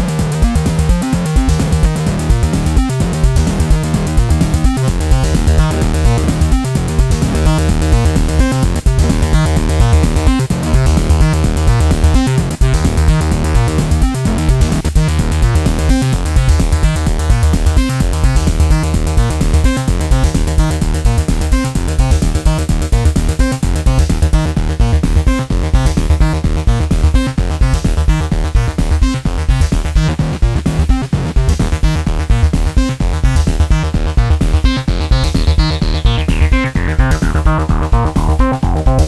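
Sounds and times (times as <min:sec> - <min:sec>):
analog synthesizer notes: 0:00.0 - 0:39.0
drum machine beat: 0:00.0 - 0:39.0.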